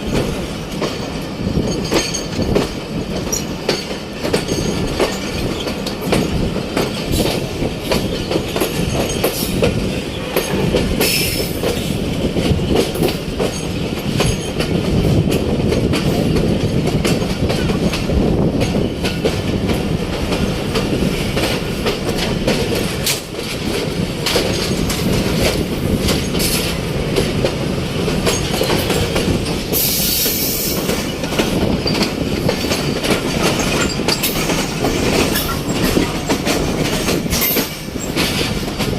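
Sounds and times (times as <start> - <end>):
train coaches rumbling: 0.0 - 38.9
wheels clattering over rail joints: 0.0 - 38.9.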